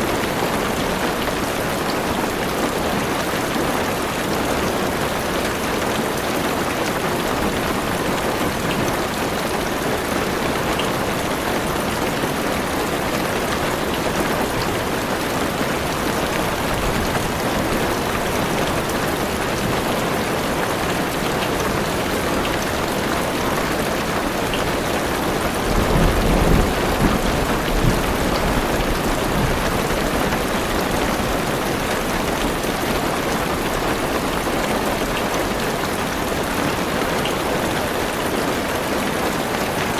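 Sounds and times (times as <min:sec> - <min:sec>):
heavy rain drumming on car roof: 0:00.0 - 0:39.9.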